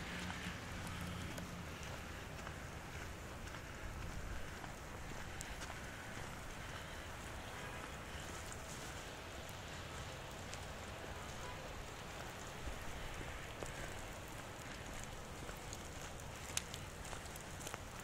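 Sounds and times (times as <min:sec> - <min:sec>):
light rain hissing: 0:00.1 - 0:18.0.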